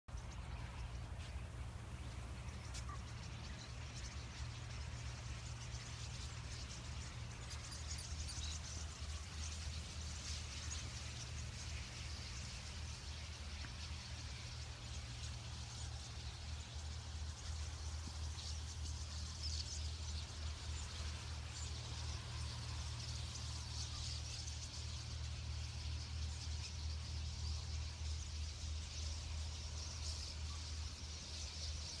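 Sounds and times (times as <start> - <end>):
many birds chirping: 0.1 - 32.0.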